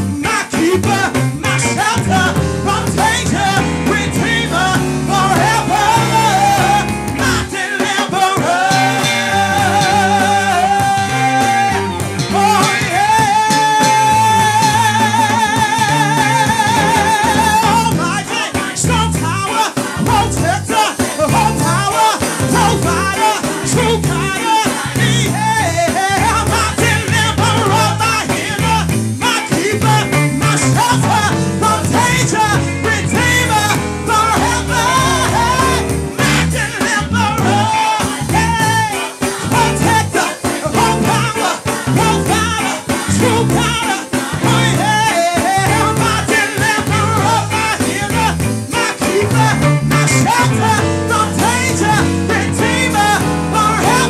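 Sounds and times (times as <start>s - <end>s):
gospel singers: 0.0s - 54.0s
guitar: 0.0s - 54.0s
rhythmic bass line: 0.0s - 54.0s.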